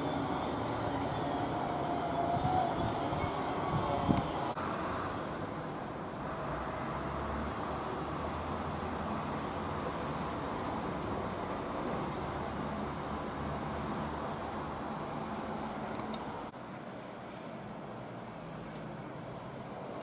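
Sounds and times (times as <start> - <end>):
vehicle engine rumble passing: 0.0 - 16.6
road traffic noise: 0.0 - 20.0.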